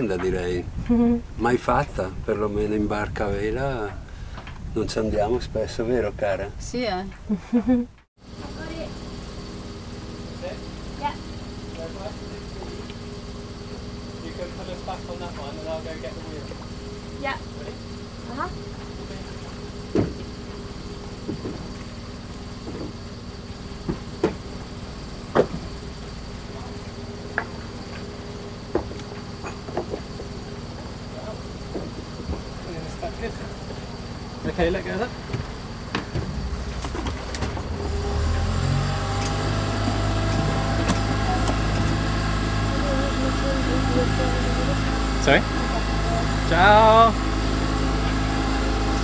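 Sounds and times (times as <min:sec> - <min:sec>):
boat engine idling: 0:08.2 - 0:49.0.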